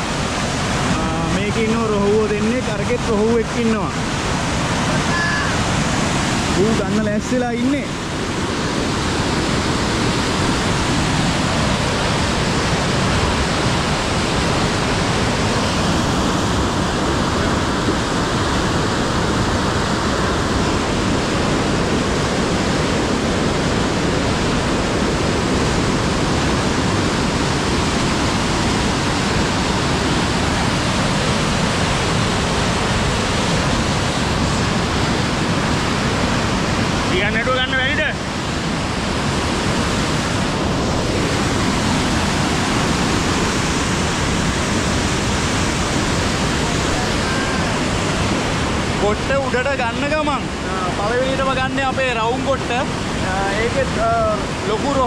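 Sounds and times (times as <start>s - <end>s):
churning white water: 0.0s - 55.0s
water rushing through sluice gate: 0.0s - 55.0s.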